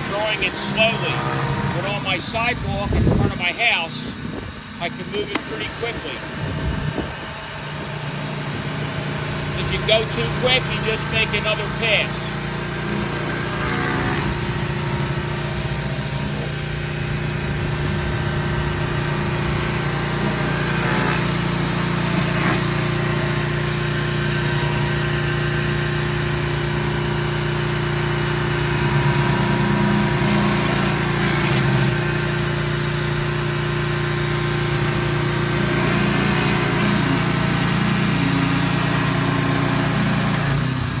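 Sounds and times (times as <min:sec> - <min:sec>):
pressure washer engine running: 0:00.0 - 0:41.0.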